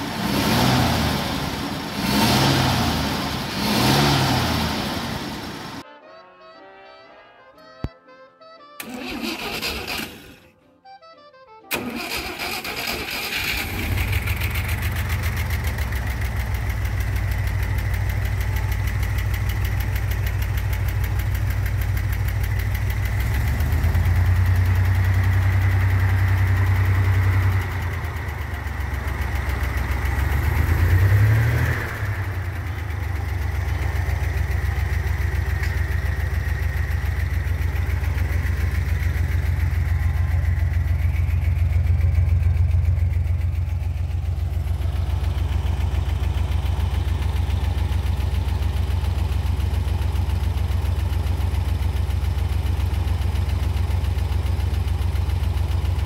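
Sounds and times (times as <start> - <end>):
car engine idling and revving: 0.0 - 5.8, 11.7 - 56.0.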